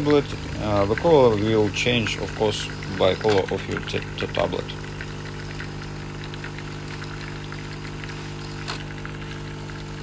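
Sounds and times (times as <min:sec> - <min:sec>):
espresso machine pump humming: 0:00.0 - 0:10.0
water running from spout: 0:00.0 - 0:10.0.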